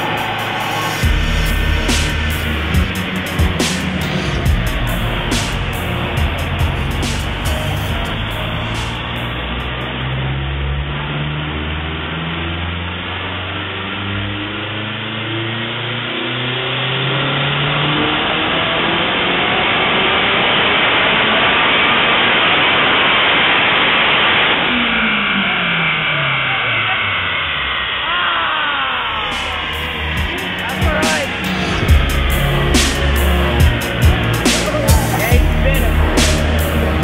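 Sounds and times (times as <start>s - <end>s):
car engine revving at full throttle: 0.0s - 37.0s.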